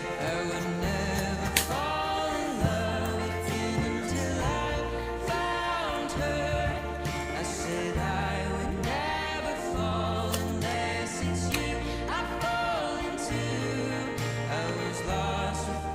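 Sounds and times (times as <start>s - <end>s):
song with vocals bass and beat: 0.0s - 15.9s.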